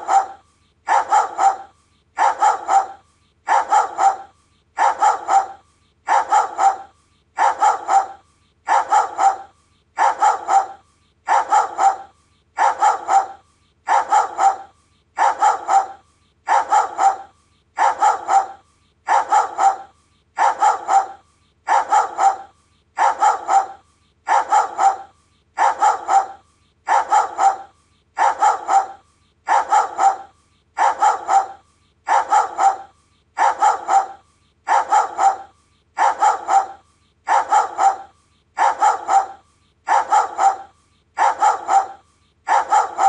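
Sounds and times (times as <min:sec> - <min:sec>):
dog barking: 0:00.0 - 0:43.0.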